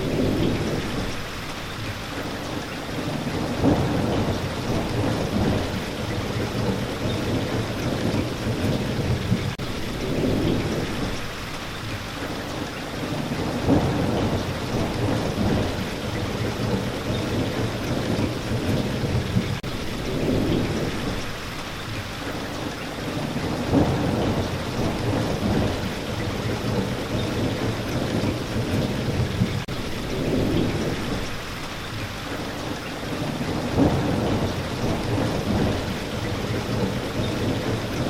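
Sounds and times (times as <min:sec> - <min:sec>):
thunder rumbling: 0:00.0 - 0:11.6, 0:12.9 - 0:21.6, 0:23.0 - 0:38.0
heavy rain hissing: 0:00.0 - 0:38.0.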